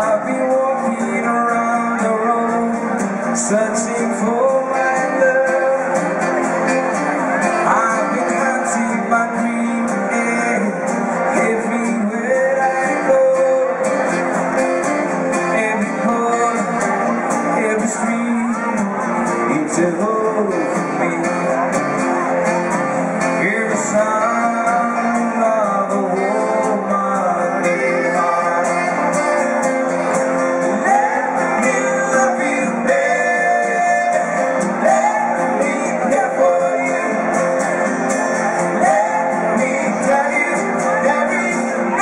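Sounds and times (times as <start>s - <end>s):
person singing: 0.0s - 14.2s, 15.2s - 42.0s
live band with guitar: 0.0s - 42.0s.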